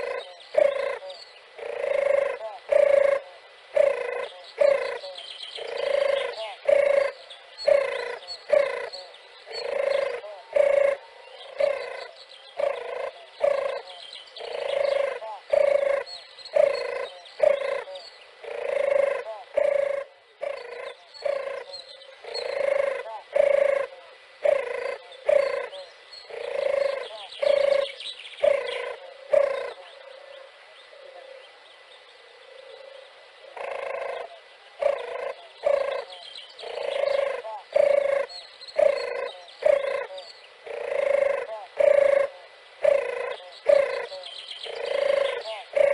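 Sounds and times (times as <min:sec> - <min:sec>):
dove cooing: 0:00.0 - 0:31.6, 0:32.2 - 0:45.9
small birds chirping: 0:00.0 - 0:45.9.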